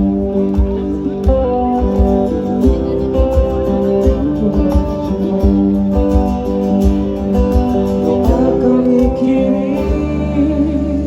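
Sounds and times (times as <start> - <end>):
low repeated beat: 0.0 - 10.4
strummed acoustic guitar: 0.0 - 11.0.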